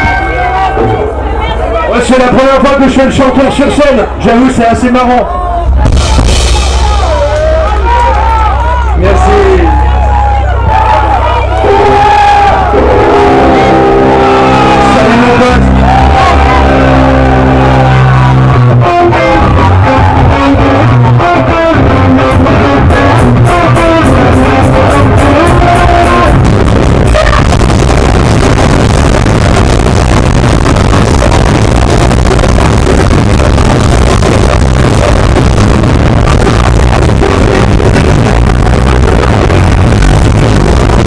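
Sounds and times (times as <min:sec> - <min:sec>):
guitar riff: 0:00.0 - 0:02.0, 0:05.5 - 0:41.0
punk rock band playing live: 0:00.0 - 0:04.8, 0:05.6 - 0:41.0.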